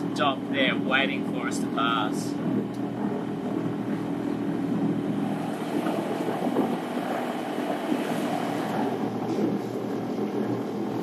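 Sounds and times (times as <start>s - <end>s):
boat engine humming: 0.0s - 11.0s
wind noise on microphone: 0.0s - 11.0s.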